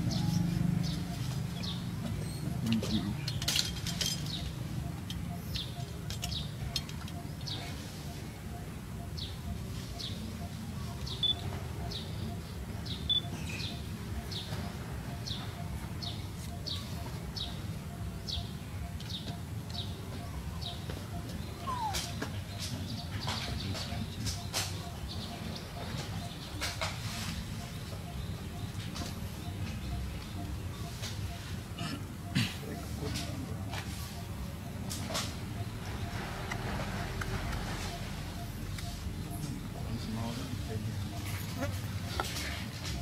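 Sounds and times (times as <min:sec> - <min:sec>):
sharp peeps: 0:00.0 - 0:43.0.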